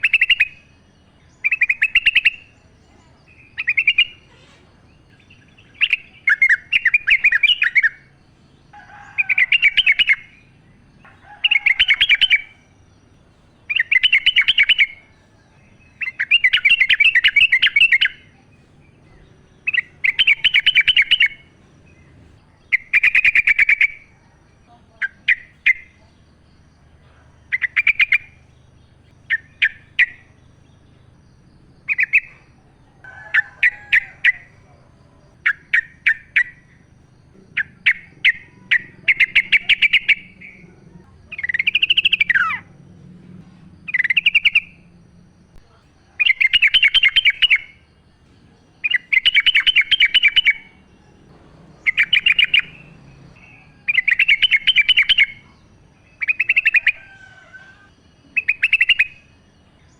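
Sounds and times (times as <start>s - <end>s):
bird singing rapid song phrases: 0.0s - 57.2s, 57.8s - 59.9s.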